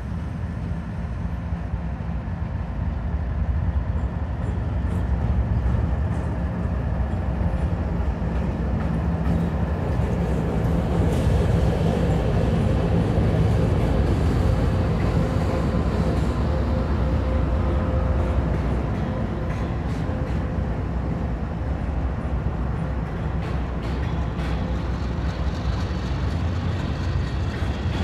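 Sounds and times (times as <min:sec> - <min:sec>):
diesel train engine rumble: 0:00.0 - 0:28.0
faint rail ticks: 0:03.9 - 0:28.0.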